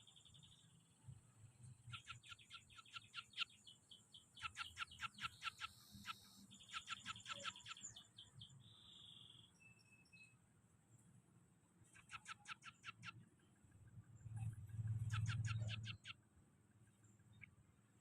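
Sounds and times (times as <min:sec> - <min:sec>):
bird ticking song: 0:00.0 - 0:01.0, 0:01.6 - 0:10.4, 0:11.8 - 0:18.0.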